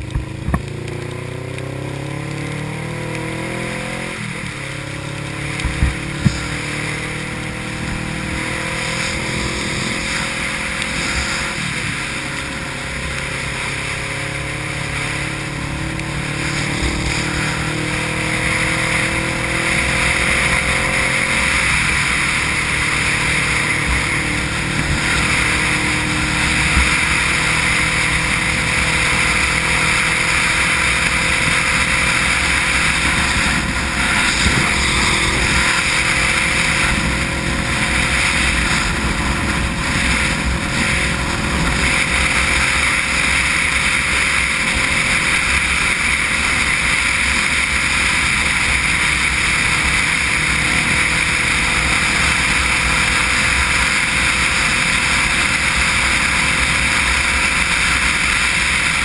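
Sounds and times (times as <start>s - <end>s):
motorcycle engine drone: 0.0s - 59.0s
wind and road spray rushing: 0.0s - 59.0s.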